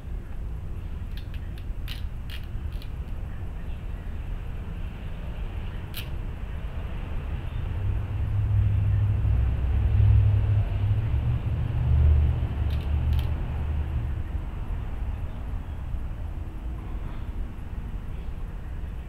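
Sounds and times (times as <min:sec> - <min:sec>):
vehicle engine rumble passing: 0:00.0 - 0:19.0.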